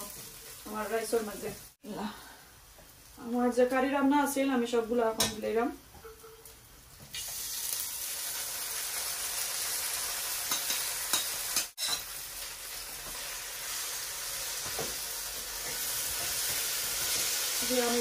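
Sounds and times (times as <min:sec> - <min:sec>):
food sizzling in oil: 0:00.0 - 0:01.9, 0:02.6 - 0:18.0.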